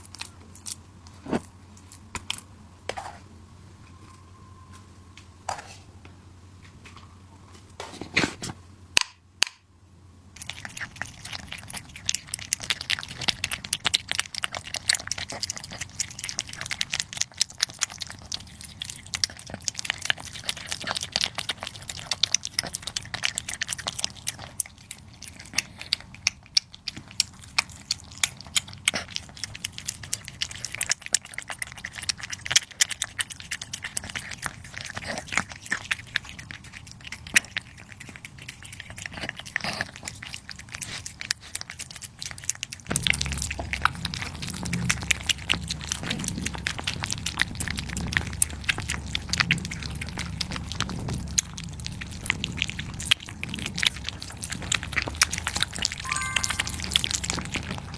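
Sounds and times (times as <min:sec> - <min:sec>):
cat chewing food: 0:00.0 - 0:03.3, 0:10.3 - 0:57.9.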